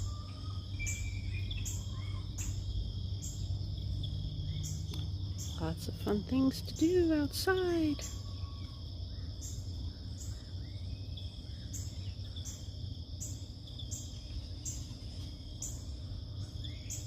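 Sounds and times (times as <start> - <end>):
insects trilling: 0.0 - 17.0
pulsing insect chirp: 0.0 - 17.0.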